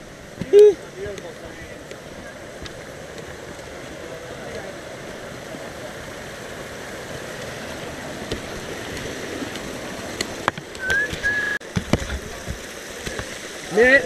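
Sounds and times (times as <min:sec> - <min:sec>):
creek splashing over rocks: 0:00.0 - 0:14.0.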